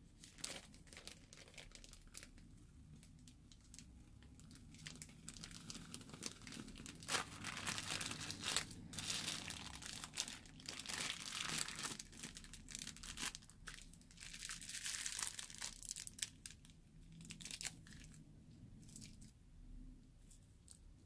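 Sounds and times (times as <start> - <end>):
plastic bag crinkling: 0.2 - 18.2, 18.8 - 19.3.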